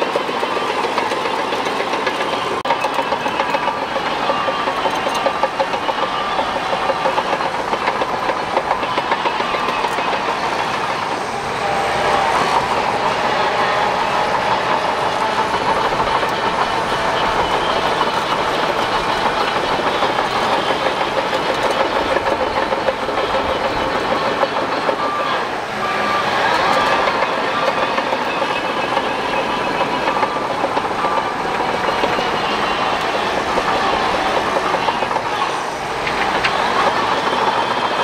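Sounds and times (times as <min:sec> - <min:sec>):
steel tracks rattling and clanking: 0:00.0 - 0:38.0.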